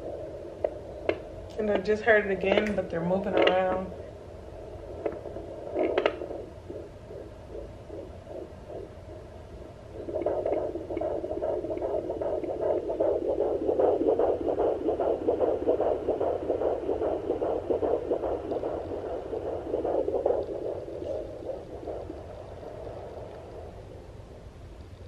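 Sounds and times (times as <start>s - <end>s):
fetal heartbeat through speaker: 0.0s - 24.1s.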